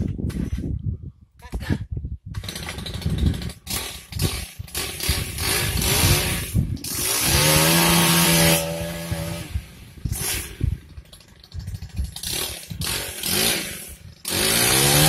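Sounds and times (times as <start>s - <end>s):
chainsaw revving: 2.4s - 11.4s, 12.0s - 15.0s.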